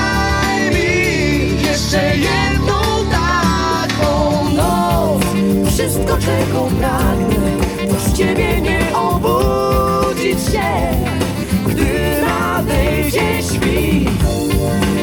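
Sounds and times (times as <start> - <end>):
pop song through speaker: 0.0 - 15.0.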